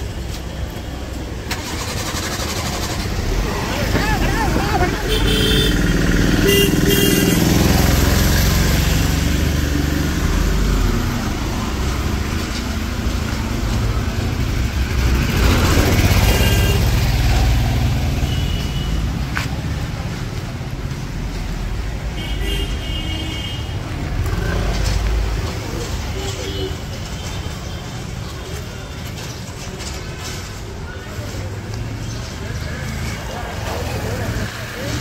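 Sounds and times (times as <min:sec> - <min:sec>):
motorcycle engines passing: 0:01.1 - 0:35.0.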